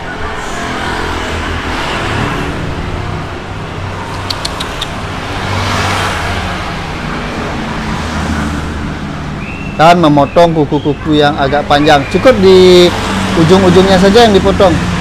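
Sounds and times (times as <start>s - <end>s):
low traffic rumble: 0.0s - 15.0s
vehicle passing by: 0.3s - 15.0s.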